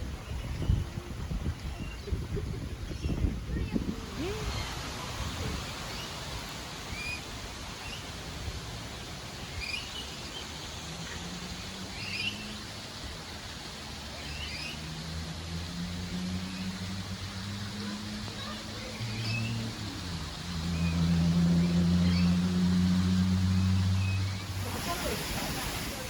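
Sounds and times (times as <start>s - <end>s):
birds chirping: 0.0s - 8.2s, 8.8s - 15.0s, 16.1s - 26.0s.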